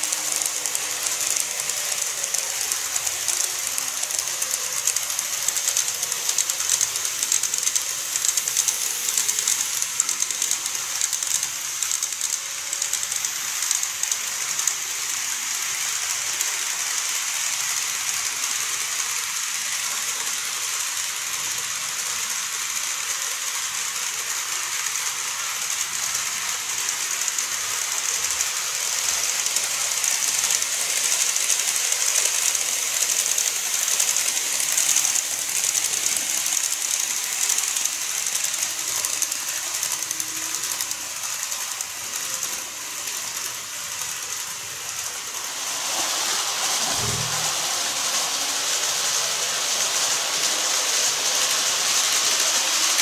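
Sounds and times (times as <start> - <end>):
model train motor whirring: 0.0 - 53.0
model train wheels rattling on rails: 0.0 - 53.0.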